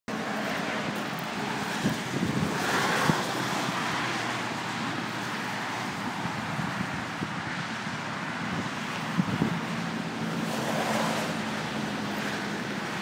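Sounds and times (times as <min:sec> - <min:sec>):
road traffic rushing: 0:00.1 - 0:13.0
wind buffeting microphone: 0:00.6 - 0:13.0.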